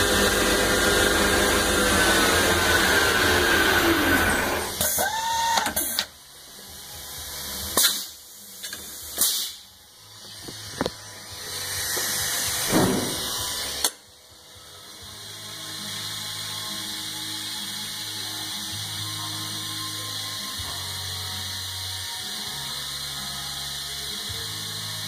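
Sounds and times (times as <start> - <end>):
lathe spindle whine: 0.0 - 7.6, 10.1 - 25.0.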